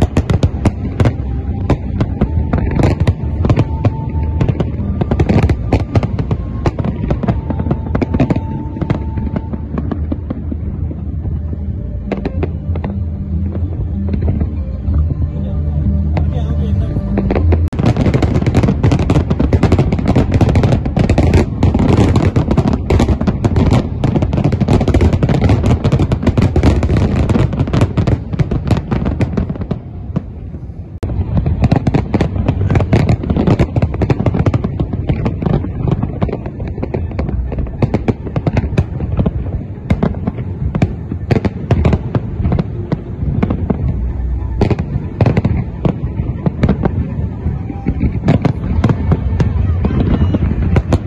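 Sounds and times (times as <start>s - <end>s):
fireworks crackling and banging: 0.0s - 51.0s.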